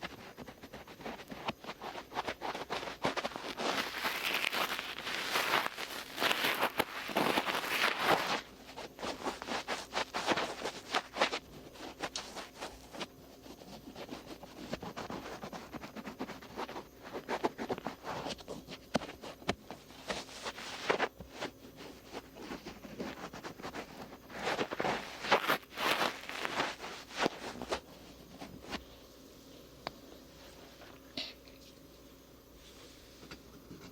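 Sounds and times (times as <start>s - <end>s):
cotton swab rubbing over ear: 0.0s - 28.8s.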